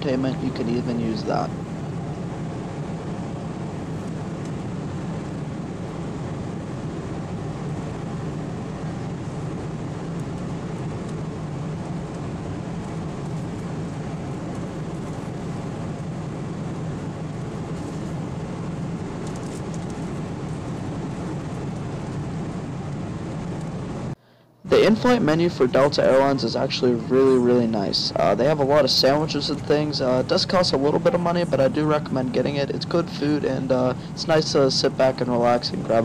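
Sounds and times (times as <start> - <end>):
airliner cabin drone: 0.0 - 36.0.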